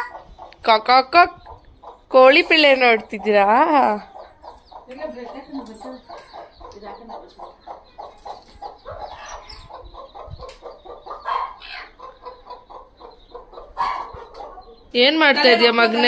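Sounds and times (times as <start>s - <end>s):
hen clucking: 0.0s - 16.0s.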